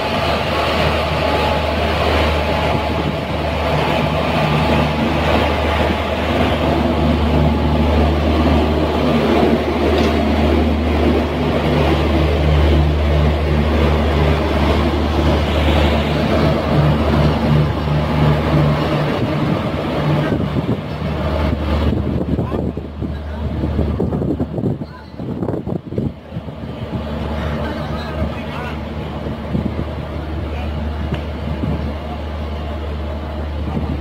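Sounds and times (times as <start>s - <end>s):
electric locomotive hum: 0.0s - 34.0s
wheels rumbling on track: 0.0s - 34.0s.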